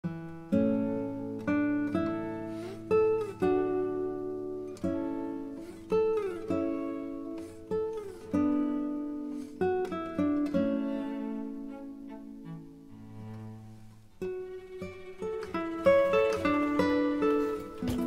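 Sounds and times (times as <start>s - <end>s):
acoustic guitar melody: 0.0s - 18.0s.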